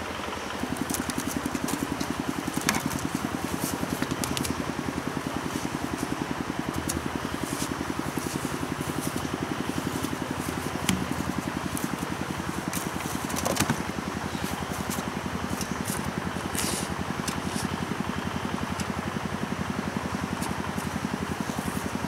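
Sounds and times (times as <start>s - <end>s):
small petrol engine idling: 0.0s - 22.0s.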